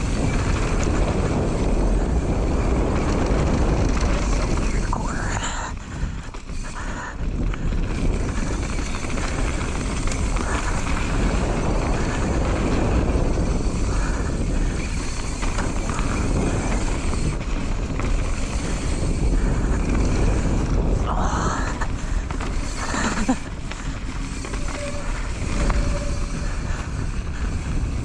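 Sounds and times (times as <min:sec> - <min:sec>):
bike tyres on dirt: 0:00.0 - 0:28.0
wind rushing over microphone: 0:00.0 - 0:28.0.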